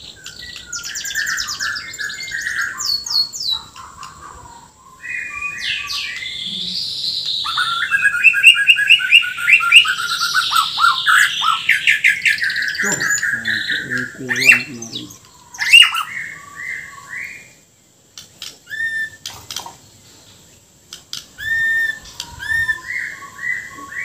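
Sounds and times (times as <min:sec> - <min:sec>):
songbird singing varied song: 0:00.0 - 0:24.0.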